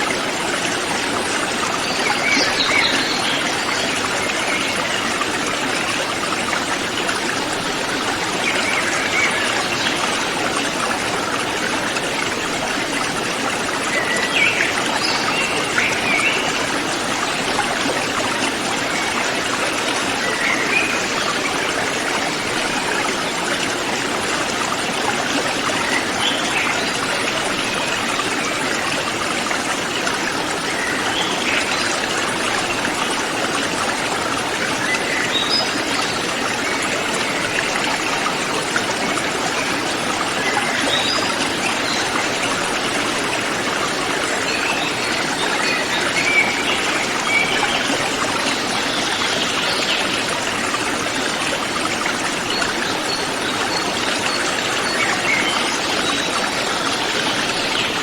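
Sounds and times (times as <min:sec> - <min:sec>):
river stream rushing: 0:00.0 - 0:58.0.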